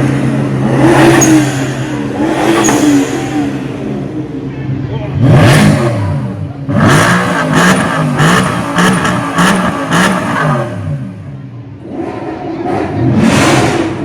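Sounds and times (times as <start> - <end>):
engine revving in blips: 0.0 - 4.4, 5.1 - 11.2, 11.8 - 14.0.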